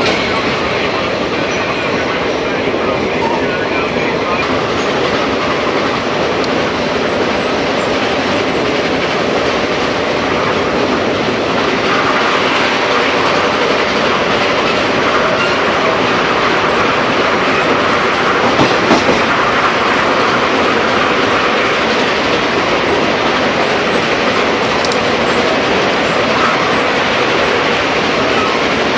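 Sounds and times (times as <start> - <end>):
train wheels rumbling on track: 0.0 - 28.9.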